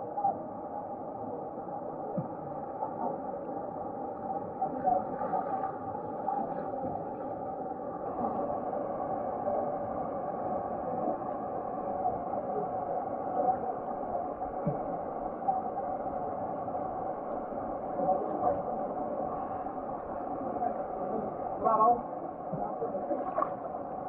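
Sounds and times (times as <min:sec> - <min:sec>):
muffled river water rushing: 0:00.0 - 0:24.0.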